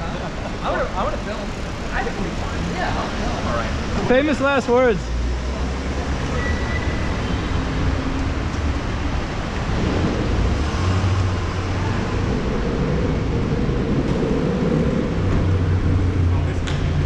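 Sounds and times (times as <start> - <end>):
passing cars: 0.0 - 17.0.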